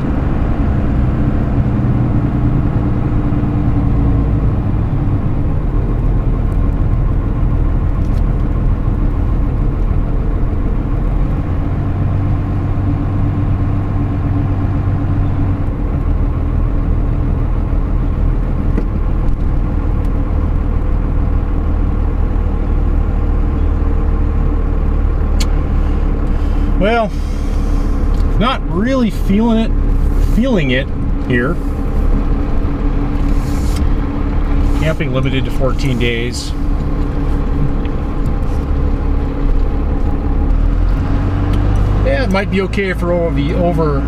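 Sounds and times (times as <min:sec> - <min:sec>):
road noise: 0:00.0 - 0:44.0
truck engine hum and rumble: 0:00.0 - 0:44.0.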